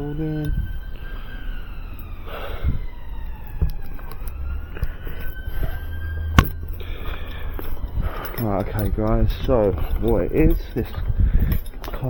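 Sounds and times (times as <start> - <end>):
emergency siren wailing: 0.0 - 12.0
steady low hum: 0.0 - 12.0.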